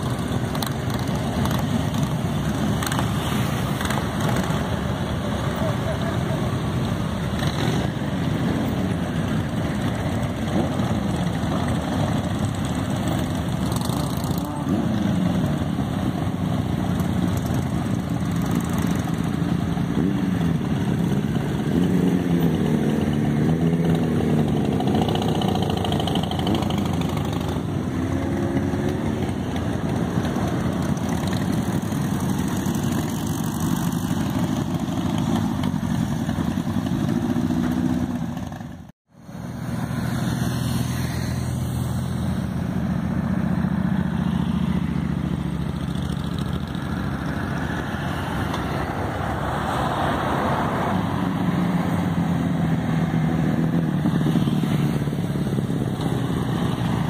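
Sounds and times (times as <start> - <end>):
motorcycles riding past: 0.0 - 57.0.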